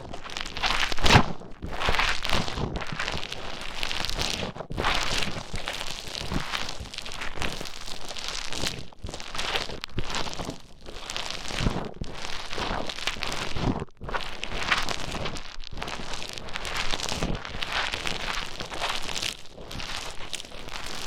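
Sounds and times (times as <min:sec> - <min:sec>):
foam bead compound squishing: 0:00.0 - 0:21.0.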